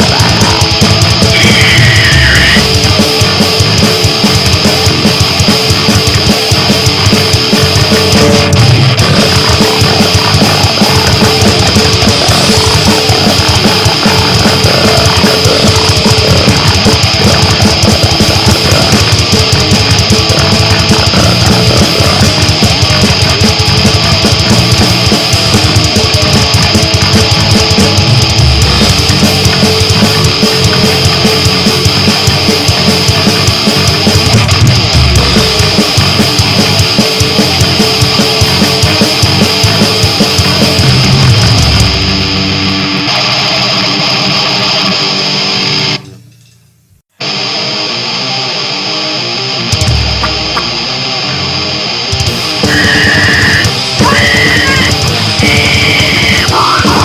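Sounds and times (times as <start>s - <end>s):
fast drumming: 0.0s - 43.2s, 49.7s - 51.0s, 52.1s - 57.0s
distorted guitar: 0.0s - 57.0s.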